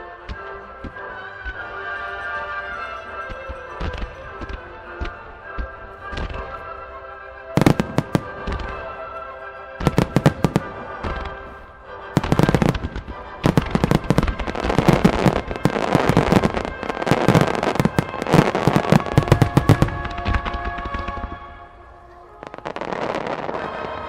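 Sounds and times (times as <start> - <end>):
show music: 0.0 - 24.0
fireworks booms and crackling: 3.1 - 6.6, 7.5 - 9.2, 9.8 - 24.0.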